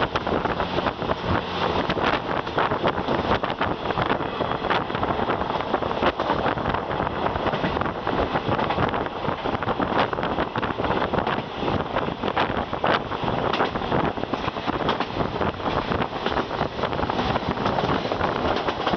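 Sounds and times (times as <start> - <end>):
passenger train rumbling past: 0.0 - 18.9
wheels clicking on rails: 0.0 - 18.9
wind buffeting microphone: 0.0 - 18.9.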